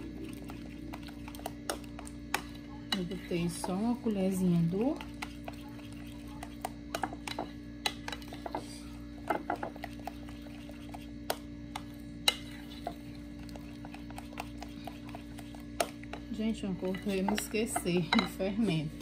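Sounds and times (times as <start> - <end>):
spoon stirring batter: 0.0 - 19.0.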